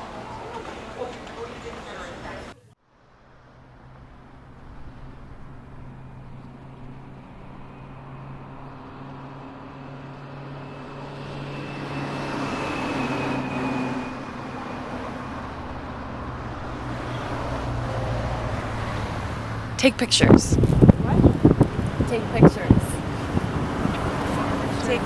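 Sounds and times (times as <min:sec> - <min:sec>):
traffic noise with low hum: 0:00.0 - 0:25.0.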